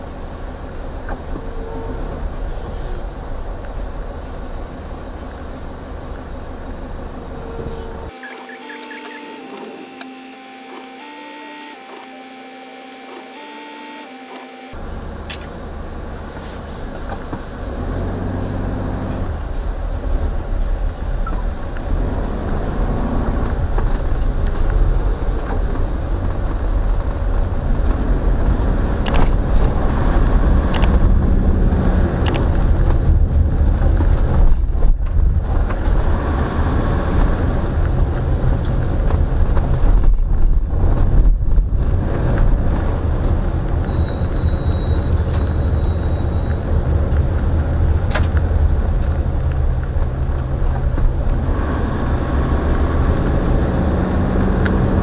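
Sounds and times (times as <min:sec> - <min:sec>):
car engine and wet tyres rumbling: 0:00.0 - 0:08.2, 0:14.7 - 0:55.0.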